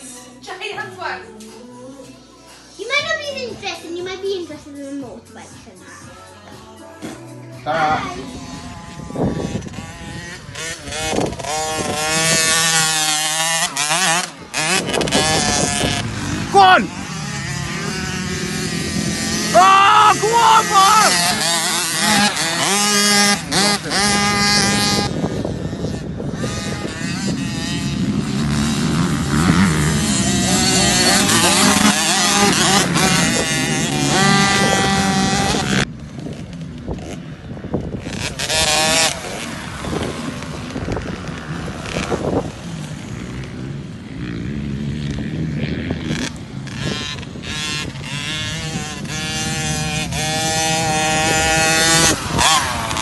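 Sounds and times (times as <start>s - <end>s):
motocross bike engine revving: 7.7s - 53.0s.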